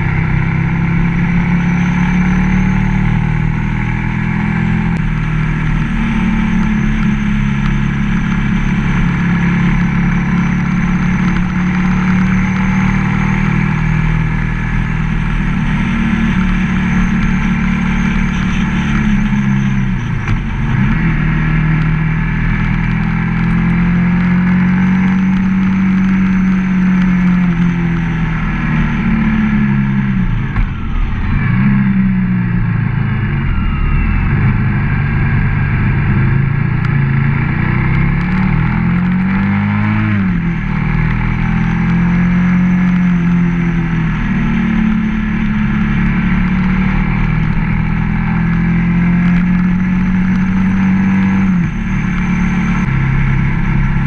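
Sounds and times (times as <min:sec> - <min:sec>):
motorcycle engine under way: 0:00.0 - 0:54.0.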